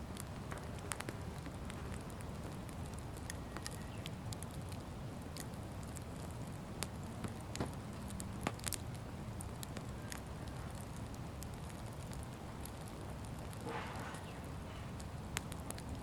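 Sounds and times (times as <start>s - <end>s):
bonfire crackling and popping: 0.0s - 16.0s
low steady rumble: 0.0s - 16.0s.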